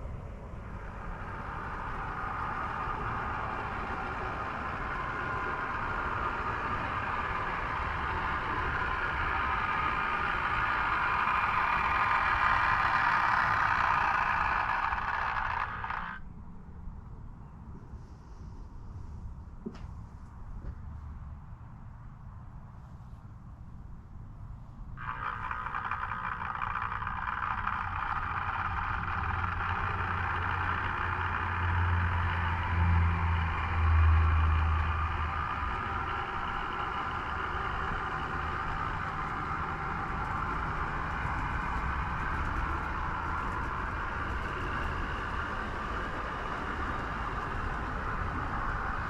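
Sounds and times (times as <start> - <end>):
model train running on track: 0.0 - 16.3, 25.0 - 49.0.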